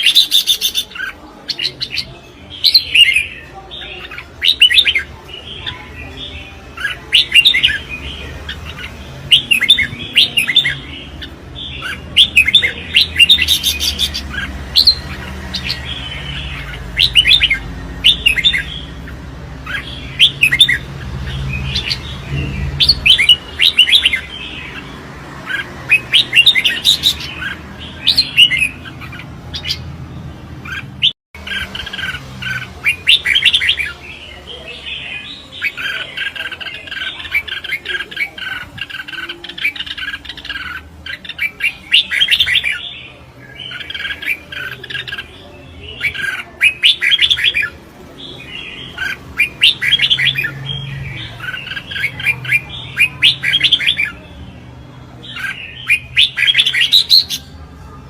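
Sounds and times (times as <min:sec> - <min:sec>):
bulbul singing: 0:00.0 - 0:58.0.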